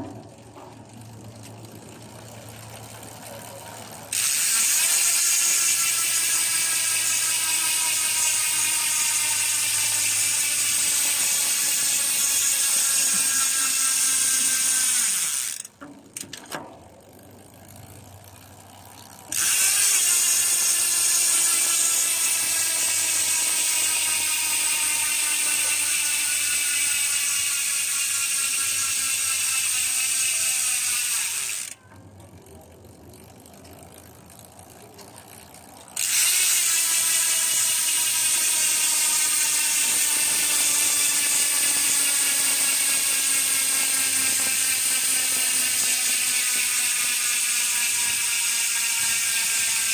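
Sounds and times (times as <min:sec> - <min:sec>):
bicycle hub ratcheting buzz: 0:00.0 - 0:49.9.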